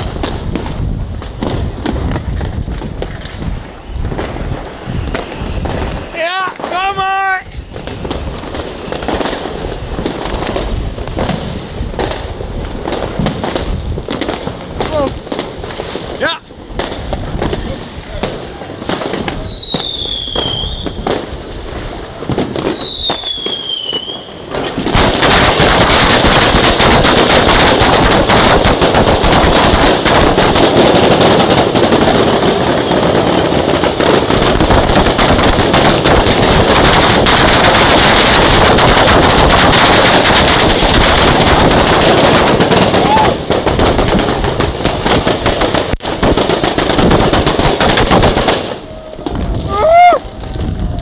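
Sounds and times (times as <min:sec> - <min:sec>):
firework bangs: 0:00.0 - 0:51.0
string of firecrackers rattling: 0:00.0 - 0:51.0
whistling fireworks: 0:00.0 - 0:51.0.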